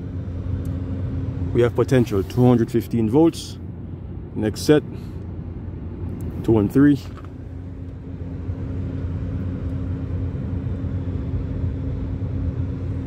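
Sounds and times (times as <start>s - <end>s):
low background rumble: 0.0s - 13.0s
steady hum: 0.0s - 13.0s.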